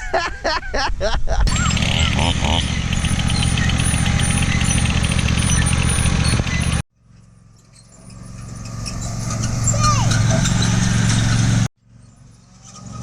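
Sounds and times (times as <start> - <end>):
quieter engine hum: 1.5 - 13.0
work machinery engine running: 1.5 - 13.0.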